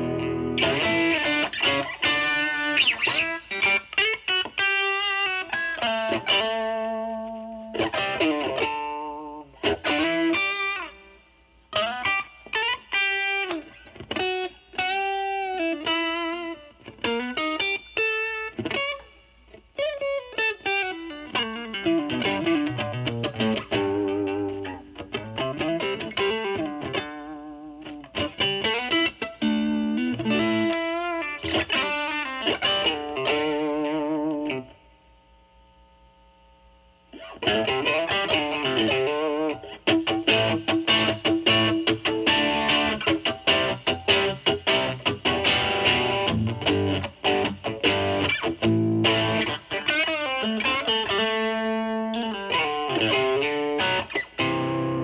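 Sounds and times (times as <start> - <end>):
lightly overdriven electric guitar: 0.0 - 35.4, 37.1 - 55.0.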